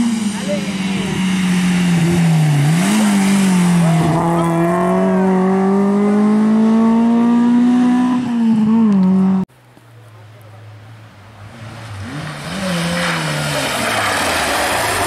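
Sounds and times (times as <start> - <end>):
rally car engine at full throttle: 0.0 - 9.5, 10.6 - 15.0.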